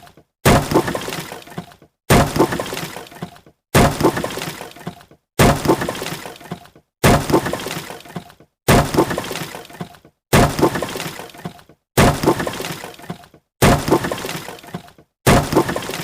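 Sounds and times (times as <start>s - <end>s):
wood smashing: 0.4s - 16.0s.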